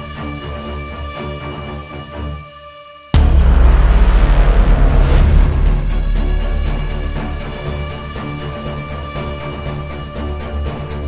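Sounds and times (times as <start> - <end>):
background music with held tones: 0.0 - 11.0.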